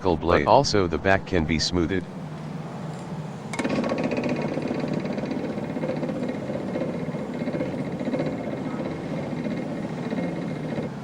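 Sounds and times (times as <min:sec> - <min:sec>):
machine noise: 0:00.0 - 0:11.0.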